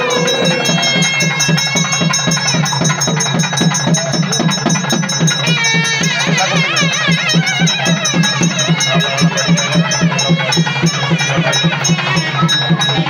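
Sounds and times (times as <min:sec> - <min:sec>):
drum beating steady pulse: 0:00.0 - 0:13.0
wavering pipe melody: 0:00.0 - 0:13.0.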